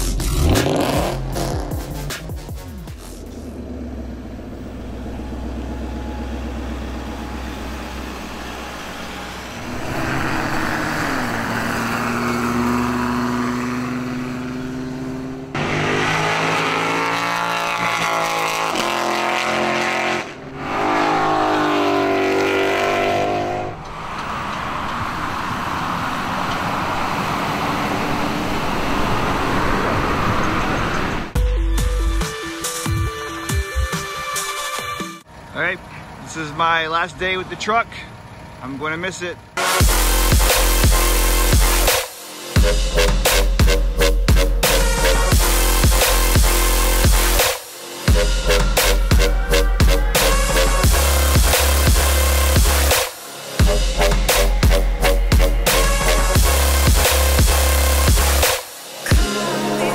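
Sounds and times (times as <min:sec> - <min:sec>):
car engines accelerating: 0:00.0 - 0:31.4, 0:35.3 - 0:59.9.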